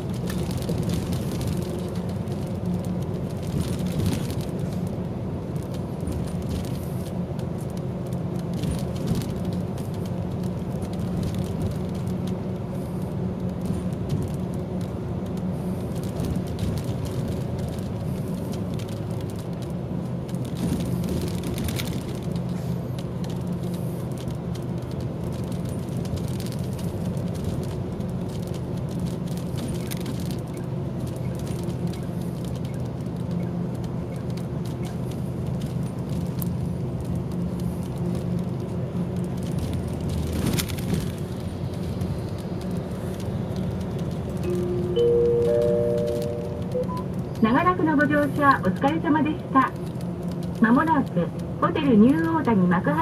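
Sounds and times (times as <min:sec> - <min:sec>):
diesel engine hum: 0:00.0 - 0:53.0.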